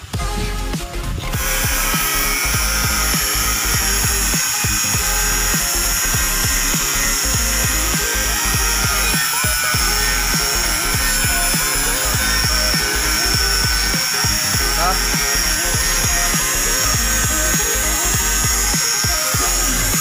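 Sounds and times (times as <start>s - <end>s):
background music with steady beat: 0.0s - 20.0s
power grinder whining: 0.0s - 20.0s.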